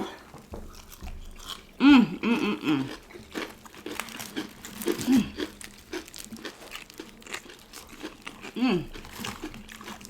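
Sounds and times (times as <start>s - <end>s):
fried chicken crunching: 0.7s - 10.0s.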